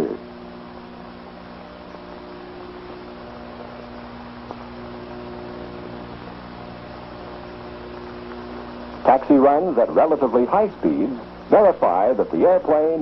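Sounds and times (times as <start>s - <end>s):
electrical hum: 0.0s - 13.0s
film soundtrack hiss: 0.0s - 13.0s.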